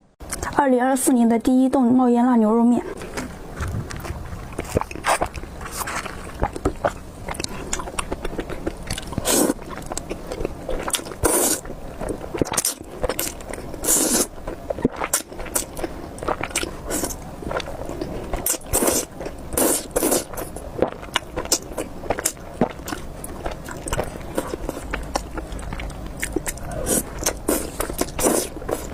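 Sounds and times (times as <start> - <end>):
eating noodles: 3.0 - 28.9.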